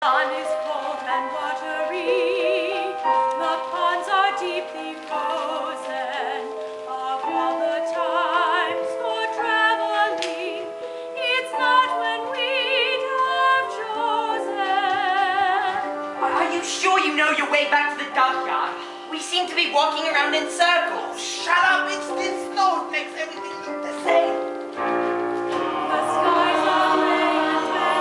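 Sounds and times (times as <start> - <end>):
voices singing in harmony: 0.0 - 22.6, 25.4 - 28.0.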